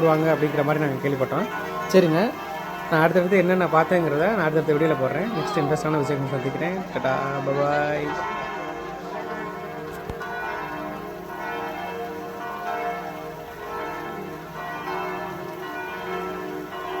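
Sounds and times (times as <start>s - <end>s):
bell-like ringing tones: 0.0s - 17.0s.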